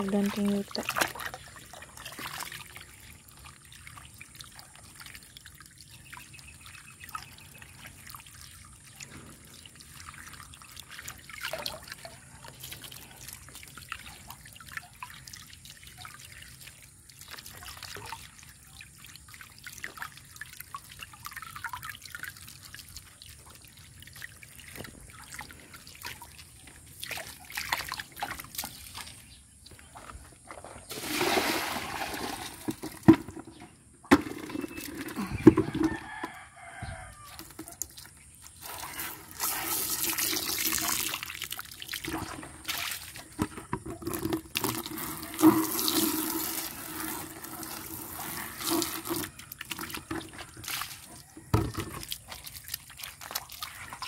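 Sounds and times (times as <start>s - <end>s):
small splashes and drips: 0.0s - 29.8s, 37.2s - 54.0s
water sloshing in plastic basin: 0.0s - 54.0s.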